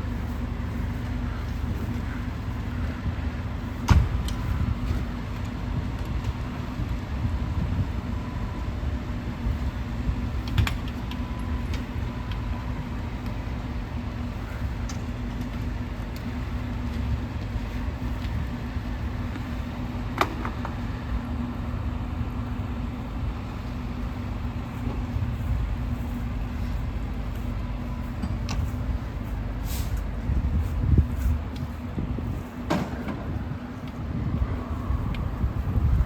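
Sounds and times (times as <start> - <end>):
fire engine idling: 0.0 - 36.0.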